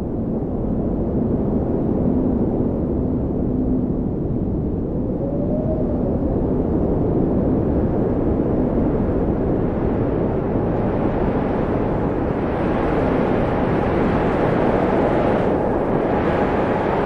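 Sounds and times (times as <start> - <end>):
wind blowing with deep rush: 0.0 - 17.0.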